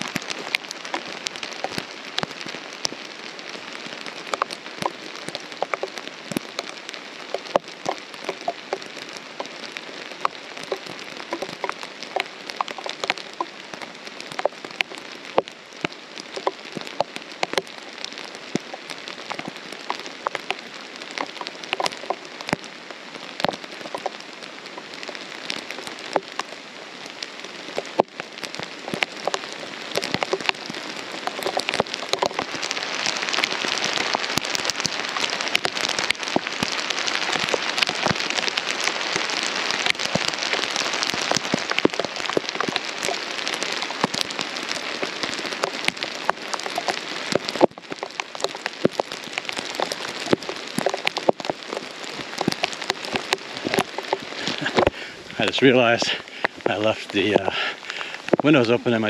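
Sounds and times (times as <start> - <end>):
rain falling through pine trees: 0.0 - 59.0
raindrops tapping on camera: 0.0 - 59.0.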